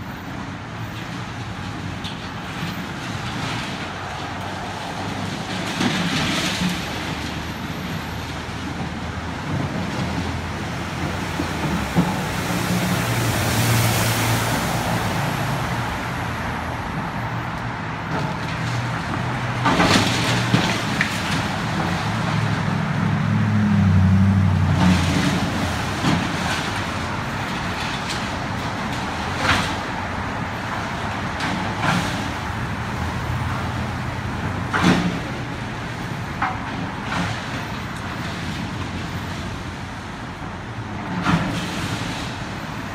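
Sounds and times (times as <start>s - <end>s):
cars driving past: 0.0s - 42.9s.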